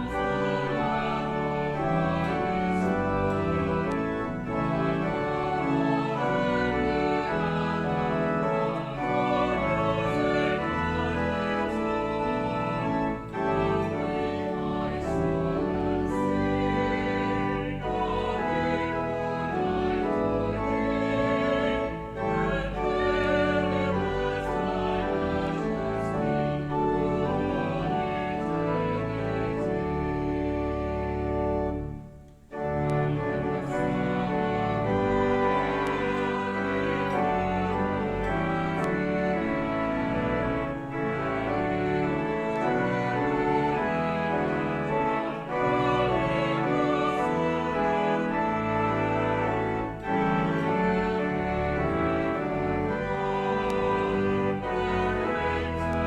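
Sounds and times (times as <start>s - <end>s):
choir and congregation singing: 0.0s - 56.0s
pipe organ: 0.0s - 56.0s.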